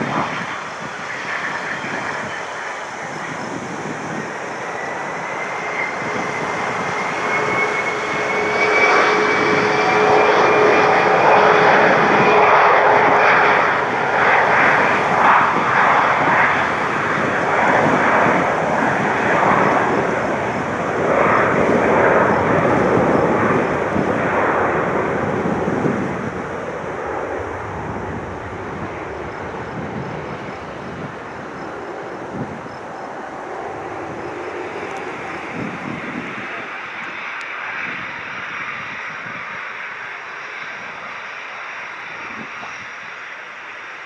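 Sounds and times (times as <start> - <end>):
jet engines whining and roaring: 0.0 - 44.0.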